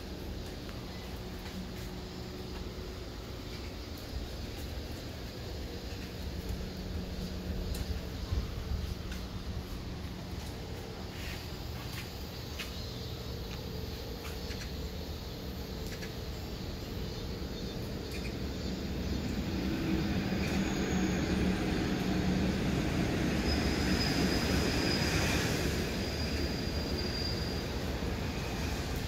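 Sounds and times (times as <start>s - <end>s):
steady low hum: 0.0s - 23.6s
faint high whine: 0.0s - 29.0s.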